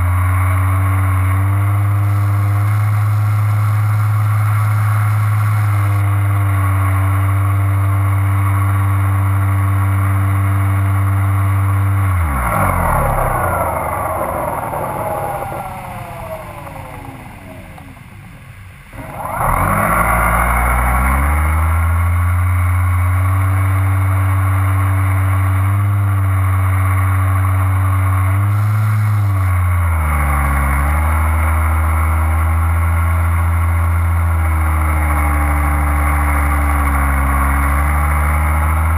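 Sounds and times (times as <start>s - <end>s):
small aircraft engine and propeller: 0.0s - 38.9s.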